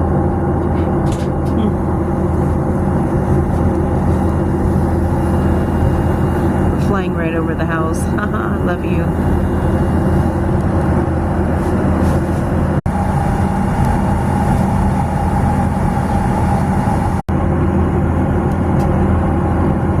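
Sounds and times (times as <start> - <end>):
faint steady whine: 0.0 - 20.0
jet engines roaring in cabin: 0.0 - 20.0.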